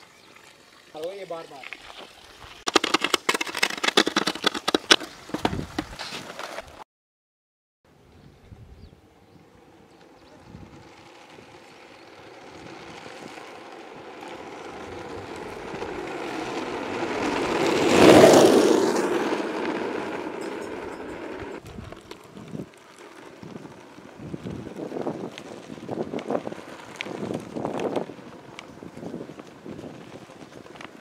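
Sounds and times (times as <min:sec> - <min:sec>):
skateboard wheels rolling on asphalt: 0:00.0 - 0:06.8, 0:07.9 - 0:31.0.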